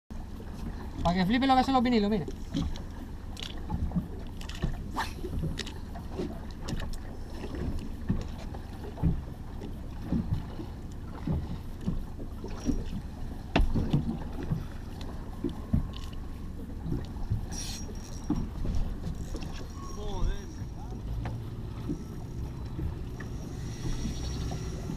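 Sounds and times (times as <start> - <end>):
water slapping against hull: 0.1 - 24.9.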